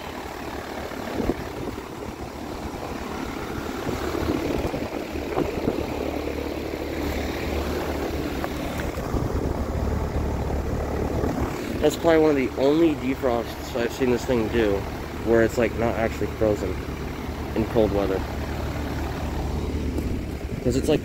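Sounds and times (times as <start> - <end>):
heat pump compressor hum: 0.0 - 21.0.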